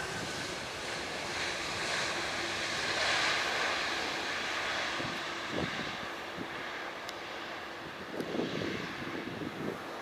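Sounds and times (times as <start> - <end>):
jet airliner rolling on runway: 0.0 - 10.0.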